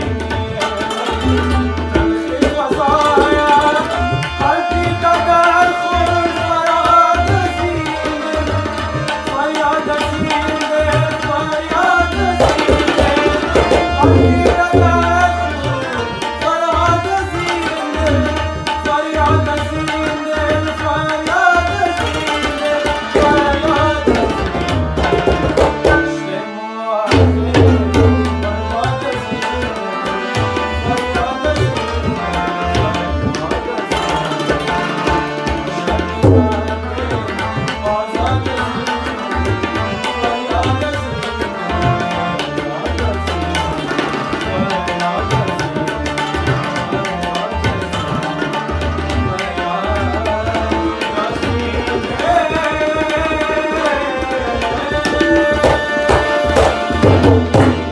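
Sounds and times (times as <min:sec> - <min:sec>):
harmonium: 0:00.0 - 0:57.9
man singing: 0:00.0 - 0:57.9
tabla rhythm: 0:00.0 - 0:57.9.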